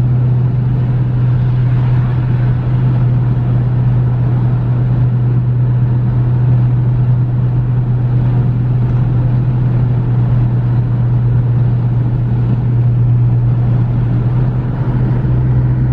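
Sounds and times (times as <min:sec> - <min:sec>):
car driving at highway speed: 0:00.0 - 0:15.9.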